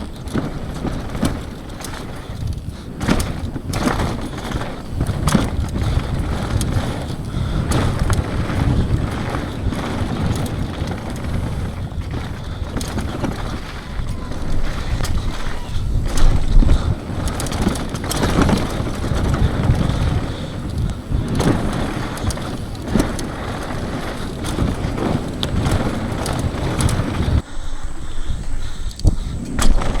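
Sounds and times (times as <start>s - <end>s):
tyres rumbling over dirt: 0.0s - 27.5s, 28.7s - 30.0s
bike rattling over bumps: 0.0s - 30.0s
wind buffeting microphone: 0.0s - 30.0s.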